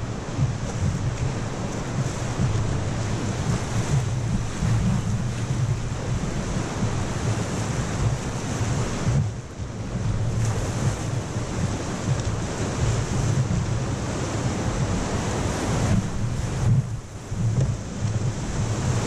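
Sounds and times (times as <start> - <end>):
roar of whitewater: 0.0 - 19.0
wind buffeting microphone: 0.0 - 19.0.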